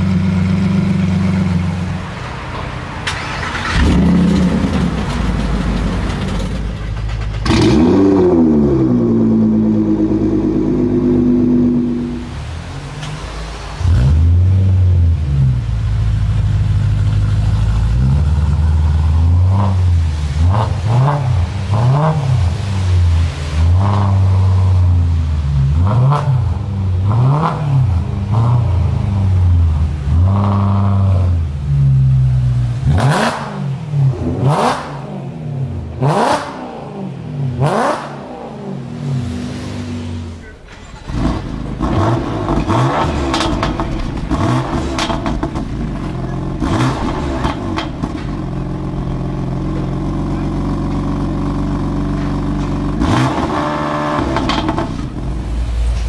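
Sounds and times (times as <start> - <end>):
car engine idling and revving: 0.0 - 56.0
second car engine starting and revving: 0.0 - 56.0.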